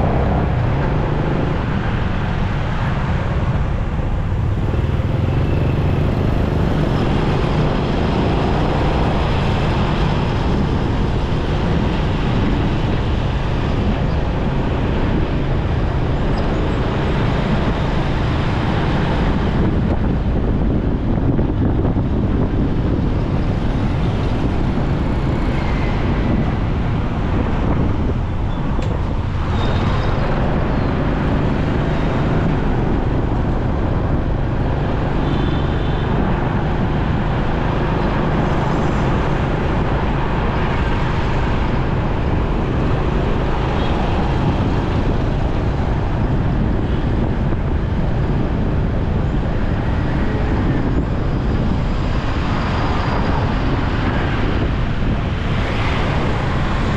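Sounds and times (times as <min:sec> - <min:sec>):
road and traffic noise: 0:00.0 - 0:56.9.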